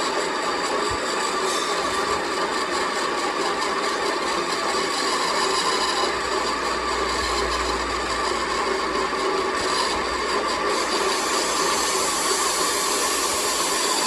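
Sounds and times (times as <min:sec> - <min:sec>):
machine working on metal: 0:00.0 - 0:14.0.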